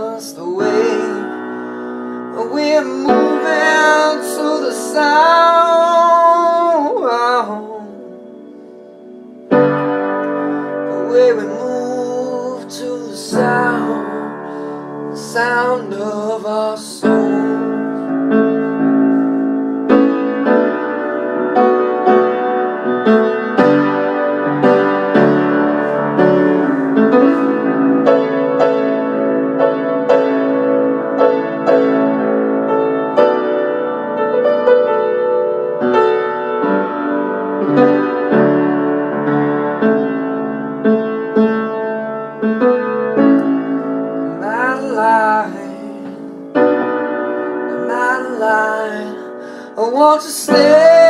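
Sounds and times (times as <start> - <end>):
solo piano ballad: 0.0 - 51.0.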